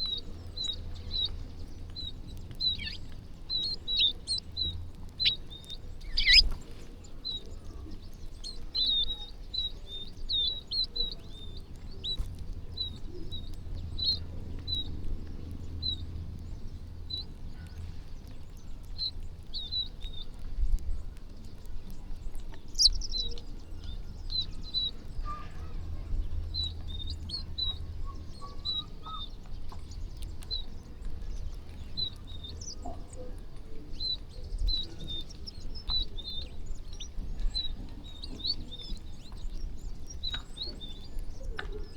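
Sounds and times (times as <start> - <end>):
steady low rumble: 0.0 - 41.5
small birds chirping: 0.0 - 41.9.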